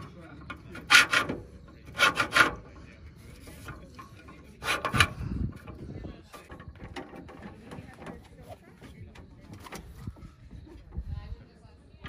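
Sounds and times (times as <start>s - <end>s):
metal ladder legs scraping: 0.0s - 10.7s.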